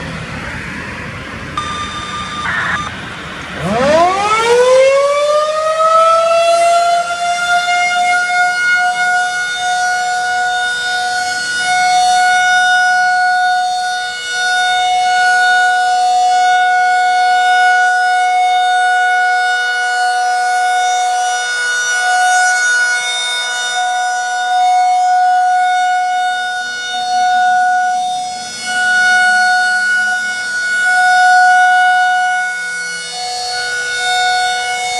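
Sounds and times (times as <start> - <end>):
short siren tones: 0.0 - 34.9
warning siren wailing: 0.0 - 34.9.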